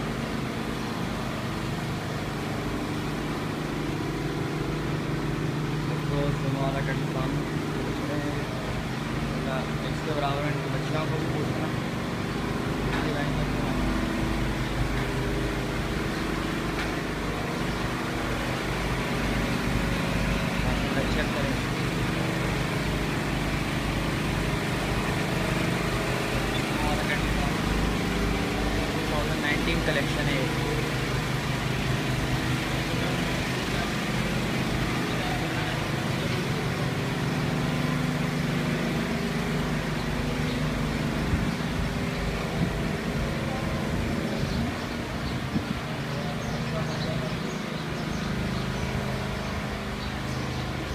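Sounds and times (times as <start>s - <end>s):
low machine drone: 0.0s - 50.9s
mechanical hum and rumble: 0.0s - 50.9s.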